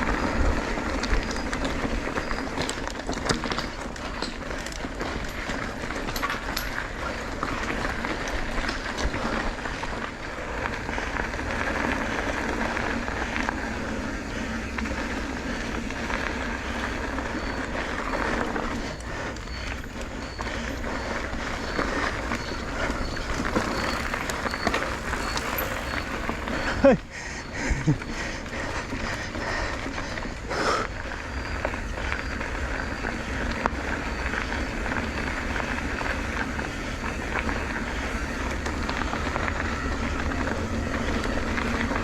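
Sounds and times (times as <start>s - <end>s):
road noise: 0.0s - 42.0s.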